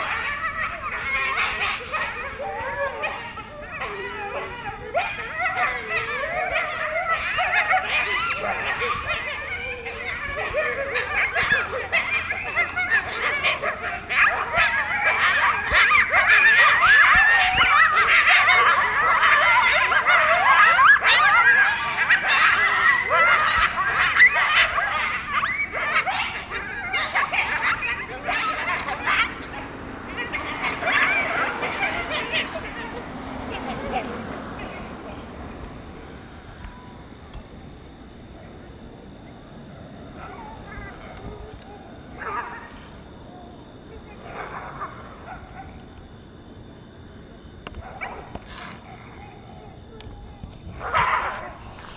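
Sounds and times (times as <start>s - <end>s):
coyotes yipping and howling: 0.0s - 51.9s.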